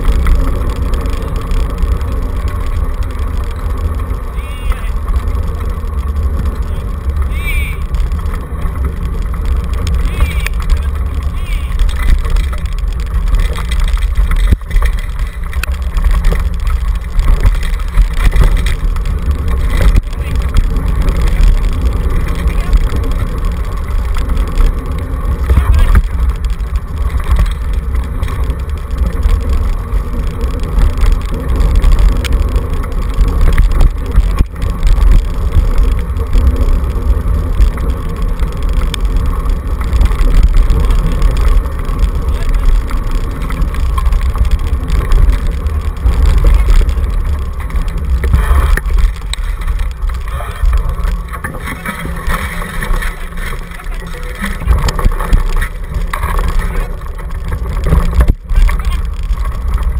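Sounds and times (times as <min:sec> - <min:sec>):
scooter rolling over dirt track: 0:00.0 - 0:59.9
wind buffeting microphone: 0:00.0 - 0:59.9.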